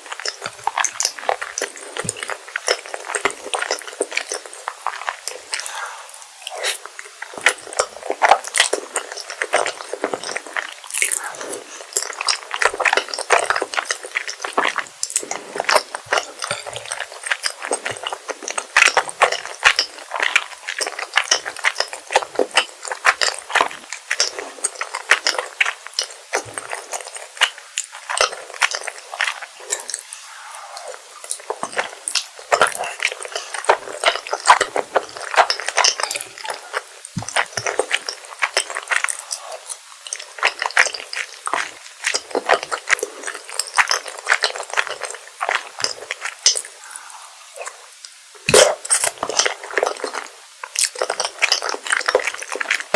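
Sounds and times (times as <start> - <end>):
wet sticky chewing: 0.0 - 52.9.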